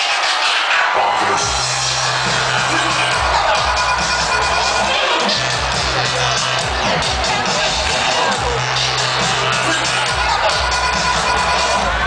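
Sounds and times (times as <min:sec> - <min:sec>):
crowd noise: 0:00.0 - 0:12.0
electronic dance music with heavy bass: 0:00.0 - 0:12.0.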